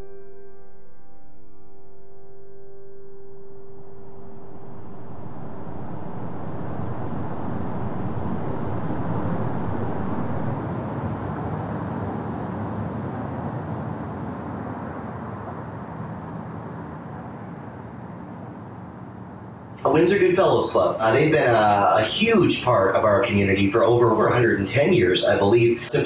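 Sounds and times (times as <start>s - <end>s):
low rushing noise: 3.2s - 26.0s.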